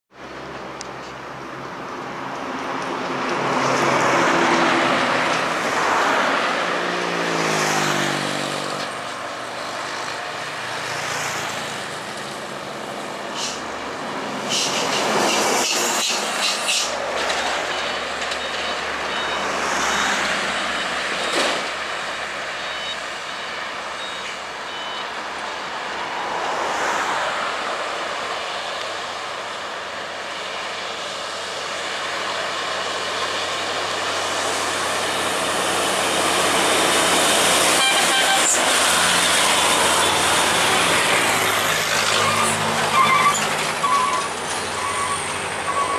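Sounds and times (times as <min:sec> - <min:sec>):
trucks passing: 0:00.1 - 0:45.9.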